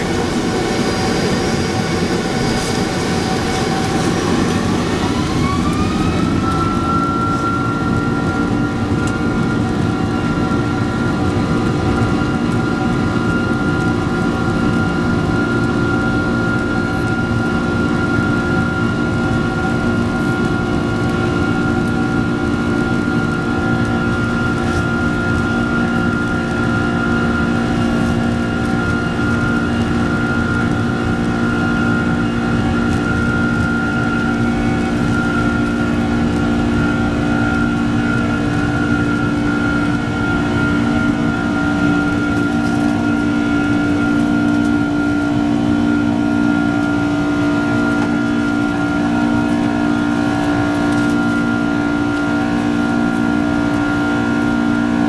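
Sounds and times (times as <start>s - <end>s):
constant engine rumble: 0.0s - 55.0s
jet engine whine: 0.0s - 55.0s.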